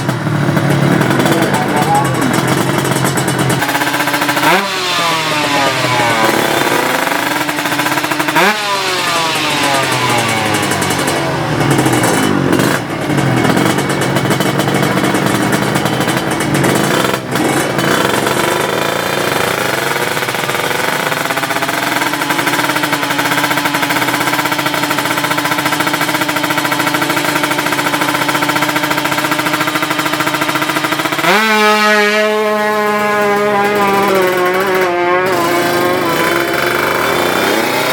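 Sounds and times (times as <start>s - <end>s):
motorcycle engines revving hard: 0.0s - 37.9s.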